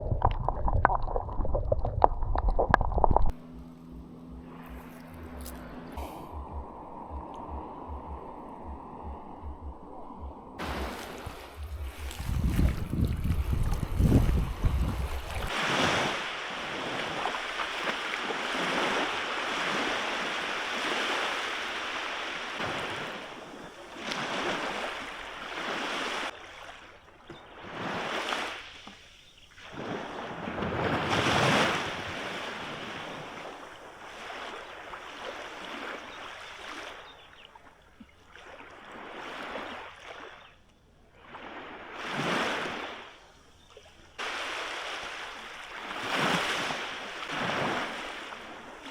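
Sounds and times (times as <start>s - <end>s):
waves washing in: 0.0s - 37.3s, 38.3s - 40.5s, 41.1s - 48.9s.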